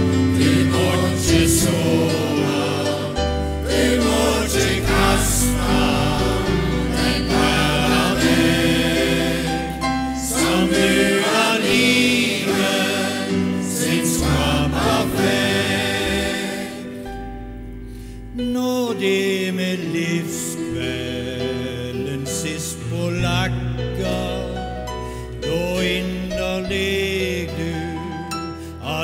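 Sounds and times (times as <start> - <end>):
choir singing a hymn: 0.0 - 17.4, 18.6 - 29.0
piano accompaniment: 0.0 - 29.0.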